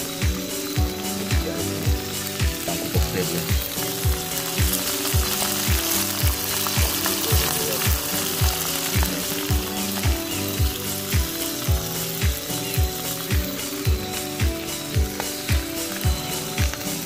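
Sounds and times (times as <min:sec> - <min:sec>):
food sizzling in oil: 0:00.0 - 0:17.0
music with kick drum thumps: 0:00.0 - 0:17.0.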